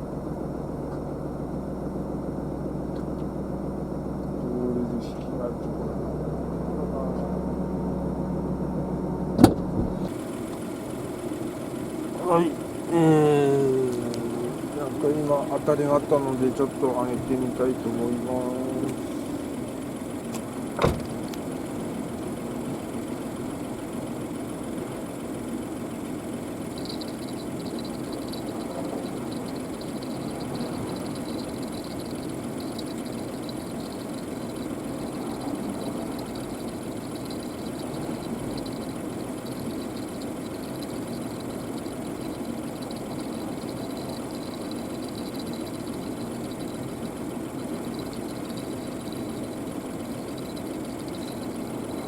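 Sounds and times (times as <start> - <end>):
engine idling: 0.0 - 52.0
faint light ticking: 10.0 - 52.0.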